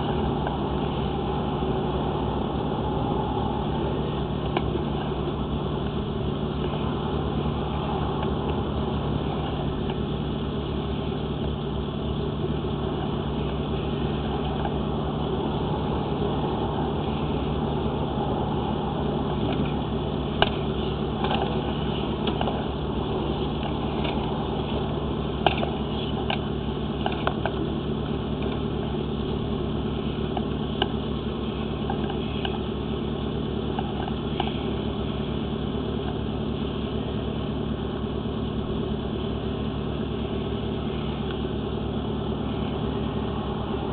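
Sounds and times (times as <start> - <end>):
mechanical hum: 0.0 - 43.9.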